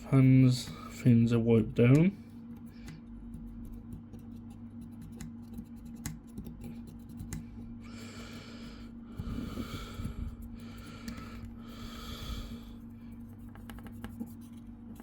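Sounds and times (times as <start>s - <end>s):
hand rubbing heatsink: 0.0s - 15.0s
steady low hum: 0.0s - 15.0s.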